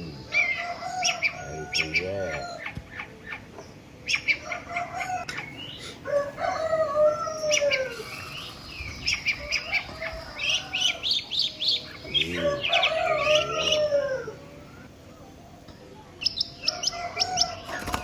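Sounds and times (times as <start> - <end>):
small birds chirping: 0.0 - 6.0, 7.0 - 18.0
chickens clucking: 0.0 - 18.0.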